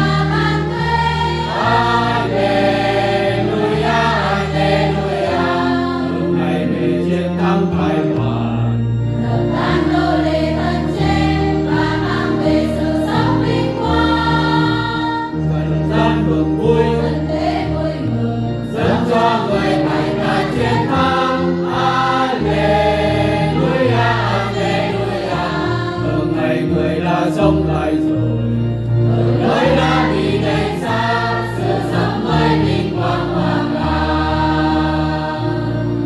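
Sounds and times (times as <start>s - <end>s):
choir singing a gospel hymn: 0.0s - 36.0s.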